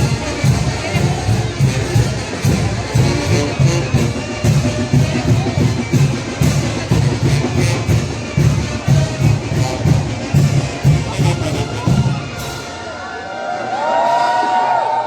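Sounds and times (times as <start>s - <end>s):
bass drum and cymbal beat: 0.0s - 12.9s
brass melody: 0.0s - 14.6s.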